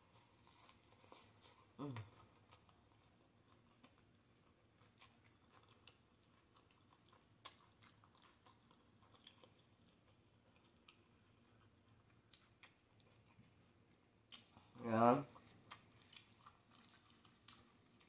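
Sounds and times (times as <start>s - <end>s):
close-up chewing: 0.0s - 18.0s.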